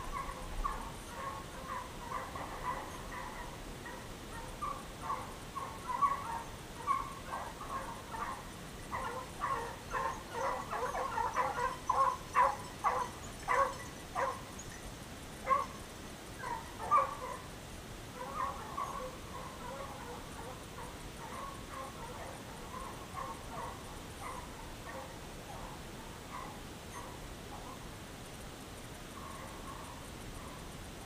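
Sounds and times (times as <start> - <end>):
hounds baying and yelping: 0.0 - 17.5, 18.2 - 27.8, 29.2 - 30.6.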